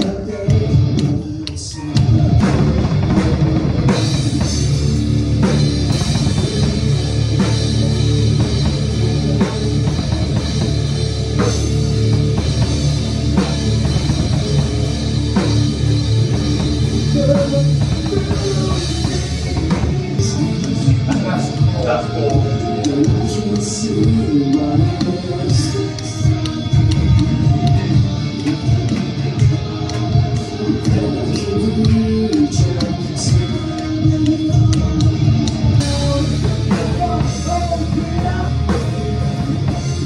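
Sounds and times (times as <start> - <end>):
rock band playing: 0.0 - 40.0.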